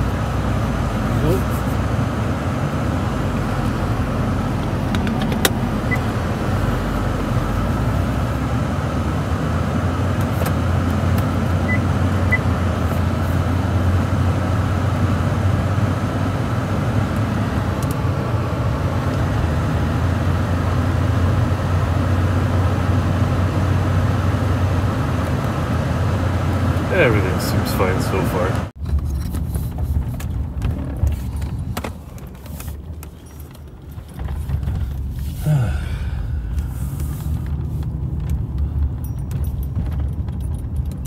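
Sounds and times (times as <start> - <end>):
road and tyre noise: 0.0 - 41.0.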